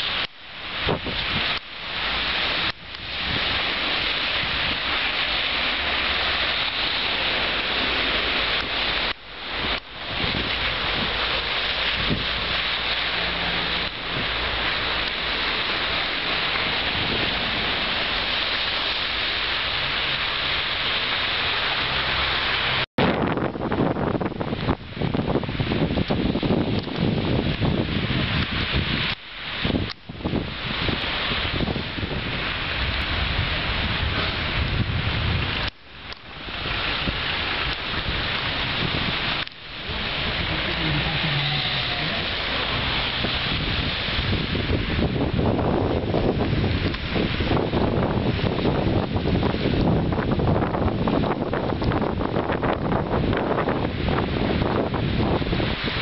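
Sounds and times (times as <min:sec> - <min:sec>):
blizzard wind and snow hiss: 0:00.0 - 0:56.0
traffic on a slushy street: 0:00.0 - 0:56.0.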